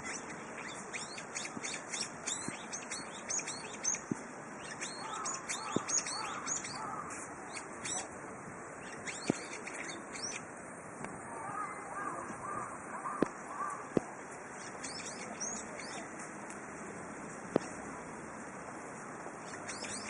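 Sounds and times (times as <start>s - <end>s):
birds chirping: 0.0s - 10.6s, 11.2s - 16.4s, 19.3s - 20.0s.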